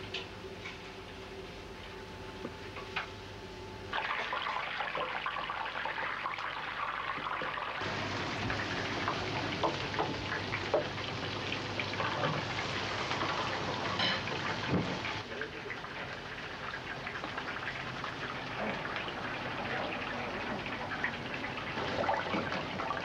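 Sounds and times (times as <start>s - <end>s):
deep-fat fryer sizzling and crackling: 0.0s - 23.0s.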